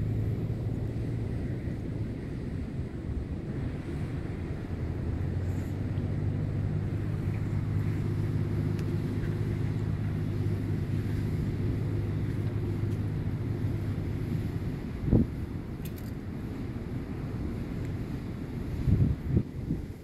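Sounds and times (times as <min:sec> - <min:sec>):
ship machinery low drone: 0:00.0 - 0:20.0
wind and sea rushing: 0:00.0 - 0:20.0.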